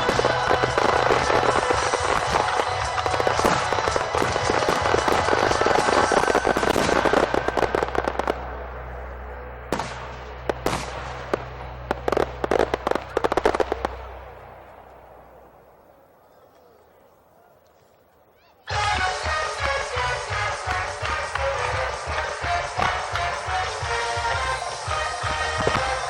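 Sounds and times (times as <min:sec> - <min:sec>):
fireworks crackling and banging: 0:00.0 - 0:16.7, 0:17.8 - 0:26.0.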